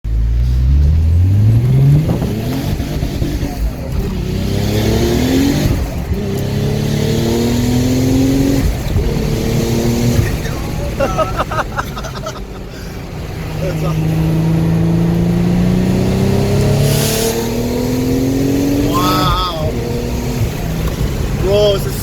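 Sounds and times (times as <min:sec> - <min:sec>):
car engine accelerating hard: 0:00.1 - 0:22.0.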